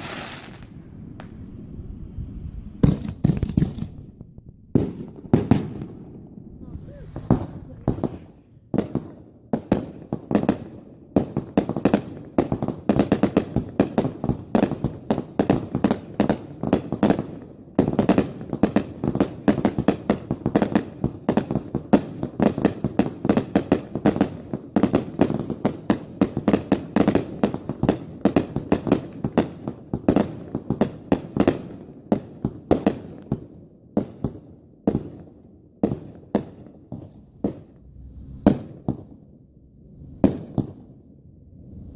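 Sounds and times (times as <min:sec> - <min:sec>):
fireworks bangs: 0:00.0 - 0:39.5, 0:40.2 - 0:41.1.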